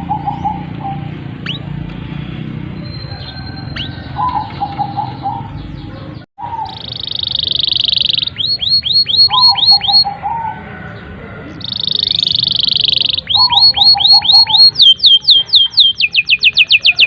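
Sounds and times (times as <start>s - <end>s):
canary singing trills and whistles: 0.0s - 1.8s, 2.7s - 10.6s, 11.5s - 17.0s.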